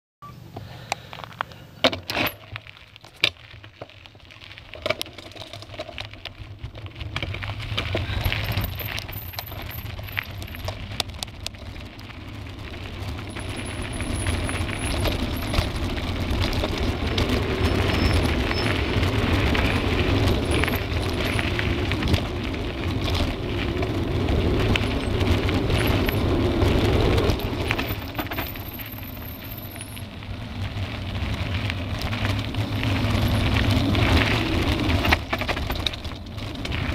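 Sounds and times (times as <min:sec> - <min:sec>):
tyres crunching over gravel: 0:00.7 - 0:36.9
bike rattling and clicking: 0:00.8 - 0:36.9.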